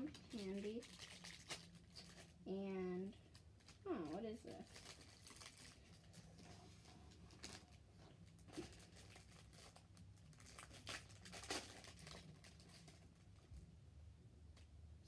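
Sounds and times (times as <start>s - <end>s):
packaging rustling and crinkling: 0.0s - 2.4s, 3.2s - 13.6s.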